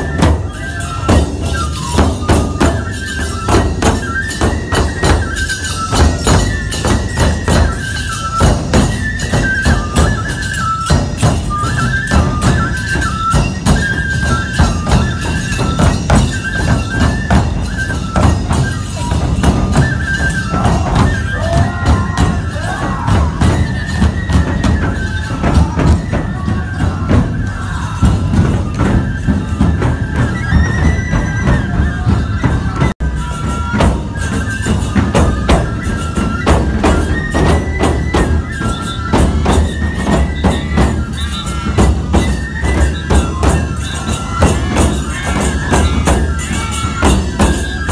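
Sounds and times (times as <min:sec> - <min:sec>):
bamboo flutes playing melody: 0:00.0 - 0:47.9
hand cymbals clashing: 0:00.0 - 0:47.9
large taiko drums beating: 0:00.0 - 0:47.9.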